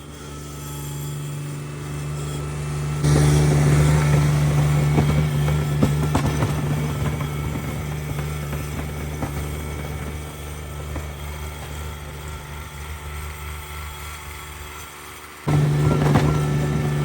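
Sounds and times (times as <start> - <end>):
garden tractor engine humming: 0.0 - 17.0.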